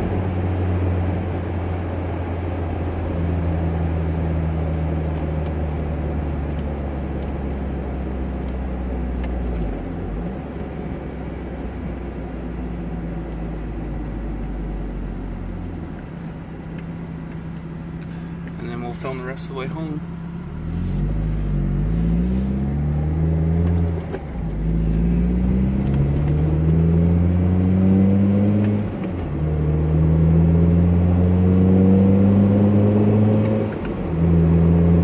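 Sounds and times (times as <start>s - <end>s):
car exhaust drone inside cabin: 0.0s - 35.0s.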